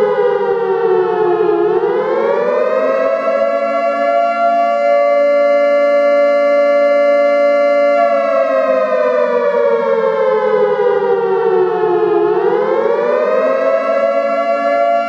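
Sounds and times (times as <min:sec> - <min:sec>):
siren-like tone: 0:00.0 - 0:15.0.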